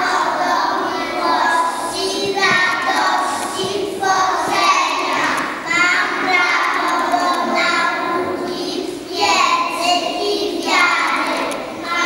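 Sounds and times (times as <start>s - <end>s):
children singing into microphones: 0.0s - 12.0s.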